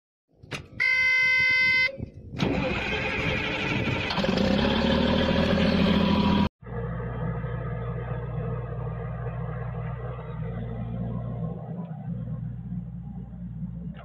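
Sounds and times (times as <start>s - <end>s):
diesel engine low hum: 2.1s - 14.0s
loud engine starting: 2.4s - 14.0s.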